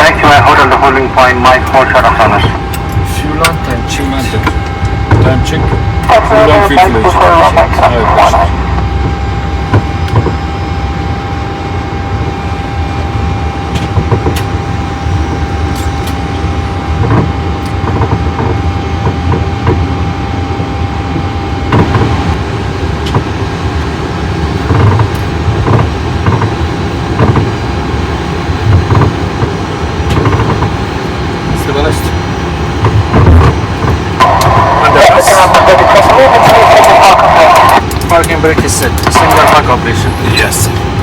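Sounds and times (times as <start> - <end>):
jet engine running: 0.0 - 41.0.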